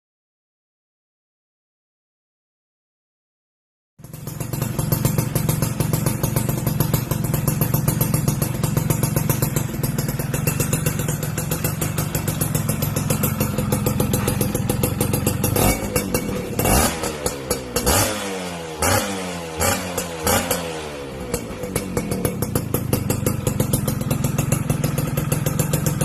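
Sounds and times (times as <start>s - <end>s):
two-stroke engine idling: 4.0s - 26.0s
engine revving: 4.1s - 26.0s.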